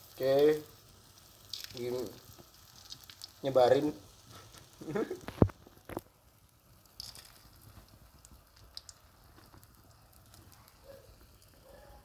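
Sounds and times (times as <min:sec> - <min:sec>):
egg sizzling in a hot pan: 0:00.0 - 0:11.8.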